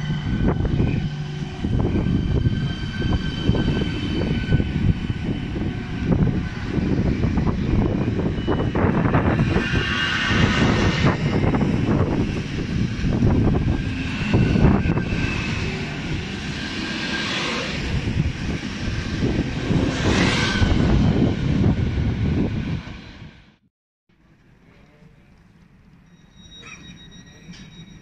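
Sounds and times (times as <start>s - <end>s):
high squeals: 0.0s - 21.2s, 26.0s - 28.0s
train wheels rumbling: 0.0s - 23.3s.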